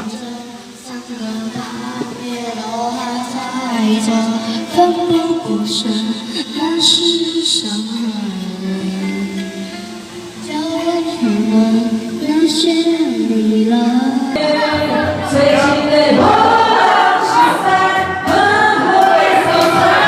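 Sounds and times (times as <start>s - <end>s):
backing music: 0.0s - 20.0s
woman singing: 0.0s - 20.0s.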